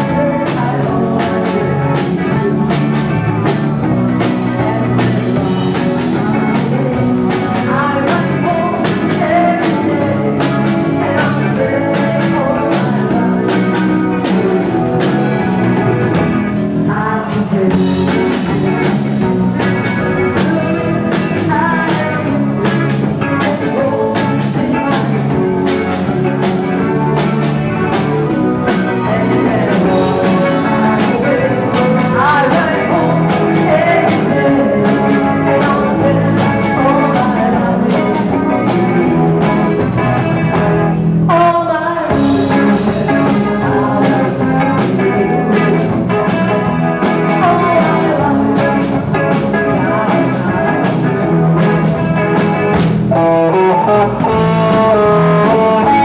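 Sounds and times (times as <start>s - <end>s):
woman singing: 0.0s - 15.9s, 16.8s - 52.7s, 53.5s - 56.0s
bass guitar: 0.0s - 56.0s
drum kit beat: 0.0s - 56.0s
electric guitar: 0.0s - 56.0s.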